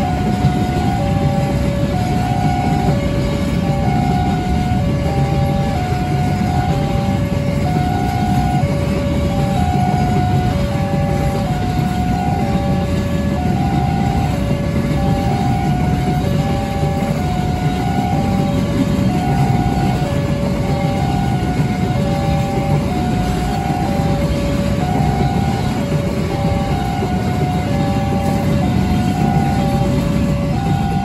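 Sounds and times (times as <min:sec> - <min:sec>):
freight train wheels rumbling: 0:00.0 - 0:31.0
level crossing warning bell: 0:00.0 - 0:31.0.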